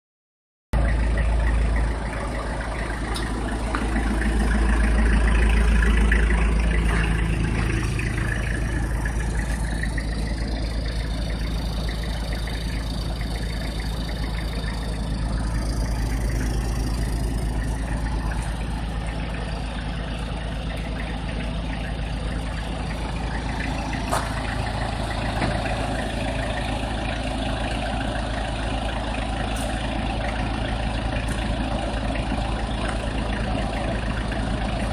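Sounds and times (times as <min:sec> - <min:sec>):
truck engine idling: 0:00.8 - 0:34.9.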